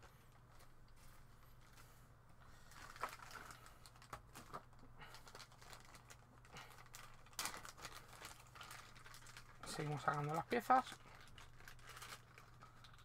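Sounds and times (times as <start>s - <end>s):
plastic bags crinkling: 0.4s - 13.0s.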